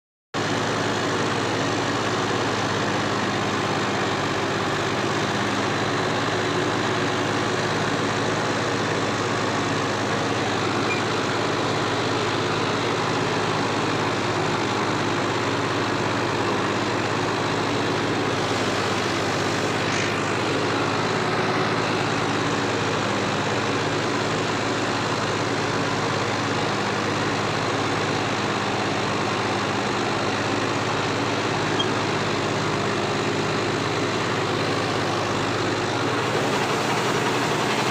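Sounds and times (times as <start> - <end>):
tractor diesel engine droning: 0.4 - 37.9.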